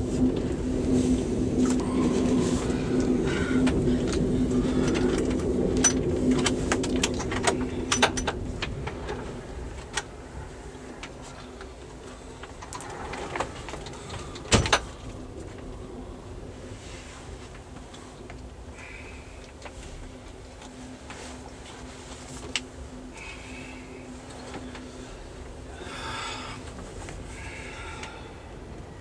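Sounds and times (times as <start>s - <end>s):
train rumbling through tunnel: 0.0s - 29.0s.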